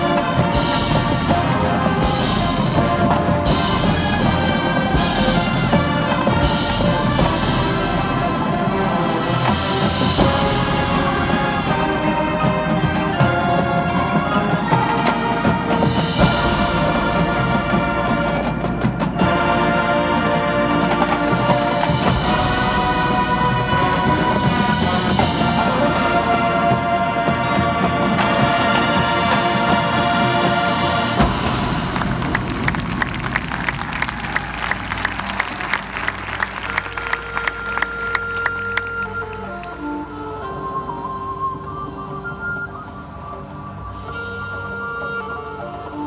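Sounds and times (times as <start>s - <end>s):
marching band percussion: 0.0s - 40.0s
marching band brass chords: 0.0s - 46.0s.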